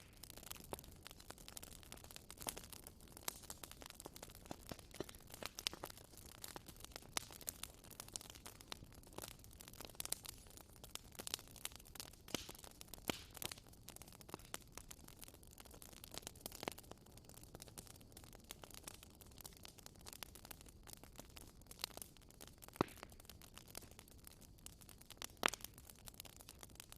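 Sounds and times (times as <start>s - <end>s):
campfire crackling and popping: 0.0s - 26.9s
hiss of burning wood: 0.0s - 26.9s.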